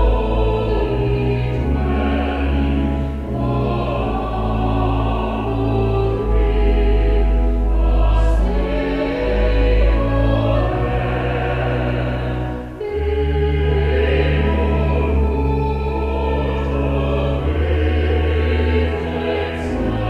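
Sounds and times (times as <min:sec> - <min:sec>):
vocal quartet singing chords: 0:00.0 - 0:20.0.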